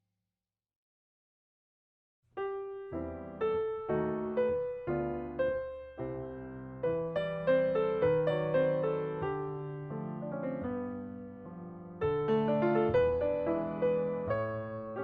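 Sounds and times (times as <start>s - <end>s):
soft piano music: 2.4s - 15.0s.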